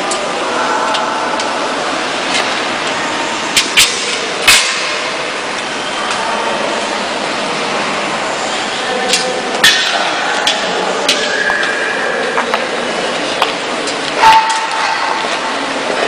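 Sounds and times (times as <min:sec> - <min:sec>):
background noise: 0:00.0 - 0:16.0.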